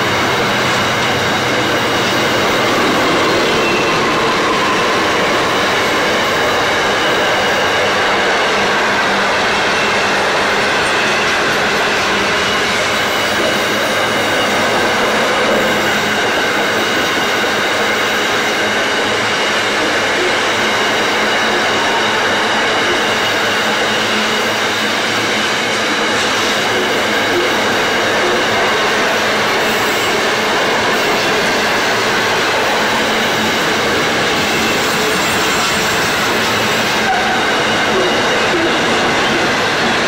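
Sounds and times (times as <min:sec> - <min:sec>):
wheels running on rail: 0:00.0 - 0:40.0.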